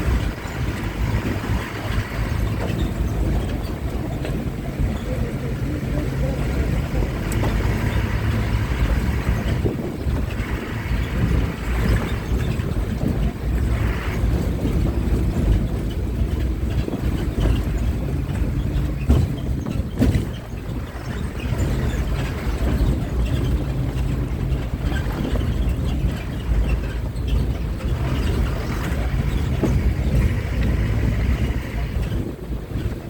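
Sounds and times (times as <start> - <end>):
bus engine and road rumble: 0.0 - 33.0
wind buffeting microphone: 0.0 - 33.0.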